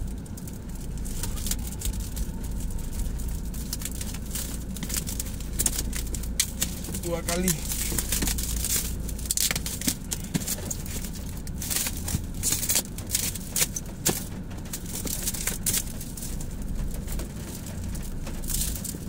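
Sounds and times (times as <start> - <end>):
low steady rumble: 0.0 - 19.0
plastic stretch wrap crinkling: 0.0 - 19.0.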